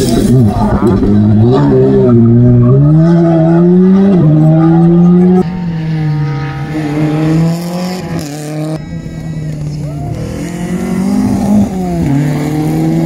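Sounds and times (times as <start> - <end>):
car engine steady note: 0.0 - 13.0
rally car engine revving: 0.0 - 13.0.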